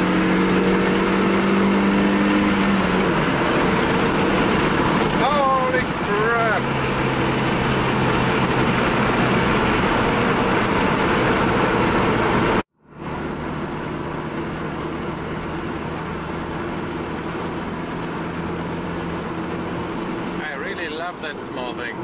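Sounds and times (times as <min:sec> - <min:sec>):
car engine running: 0:00.0 - 0:22.0
road noise: 0:00.0 - 0:22.0.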